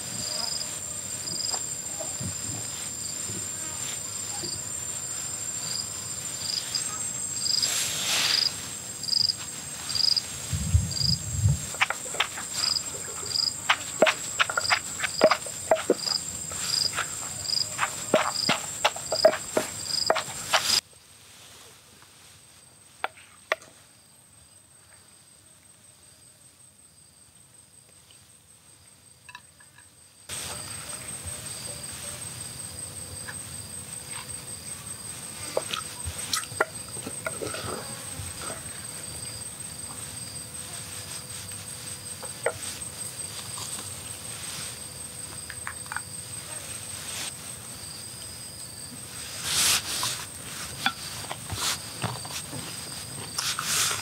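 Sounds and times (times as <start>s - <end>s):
insects chirping: 0.0s - 21.5s, 22.2s - 54.0s.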